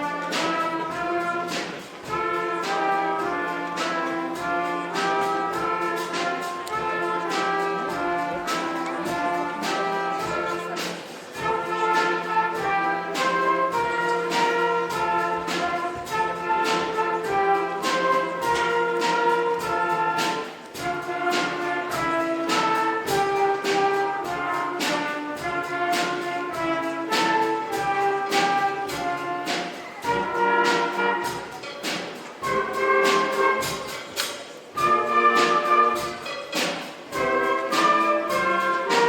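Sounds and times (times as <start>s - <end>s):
brass held notes: 0.0s - 34.2s, 34.8s - 39.0s
orchestra playing upbeat piece: 0.0s - 39.0s
percussion hits: 0.0s - 39.0s.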